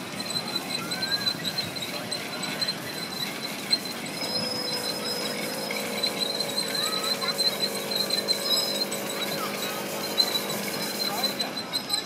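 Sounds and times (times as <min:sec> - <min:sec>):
miniature train running on track: 0:00.0 - 0:12.0
train wheels squealing: 0:00.0 - 0:12.0.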